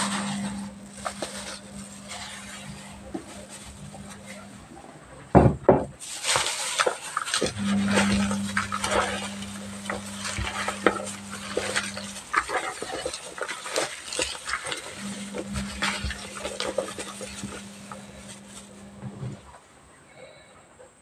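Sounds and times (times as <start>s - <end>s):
hands mixing wet fish pieces: 0.0s - 4.7s, 6.0s - 19.5s
low steady hum: 0.0s - 5.6s, 6.5s - 20.4s.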